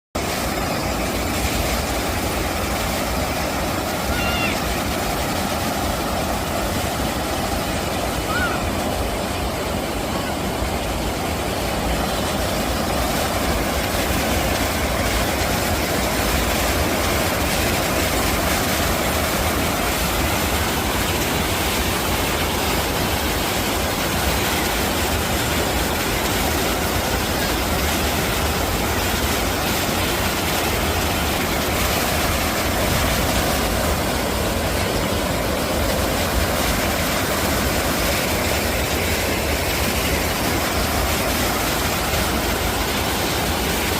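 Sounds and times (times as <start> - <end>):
stream water rushing: 0.2 - 43.9.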